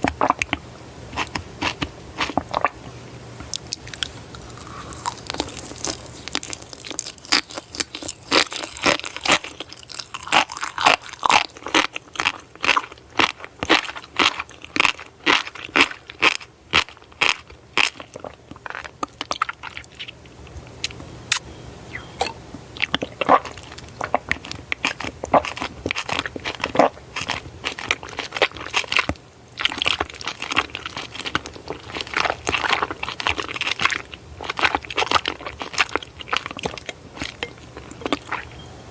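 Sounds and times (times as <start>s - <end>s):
person chewing crunchy food: 0.0s - 38.6s.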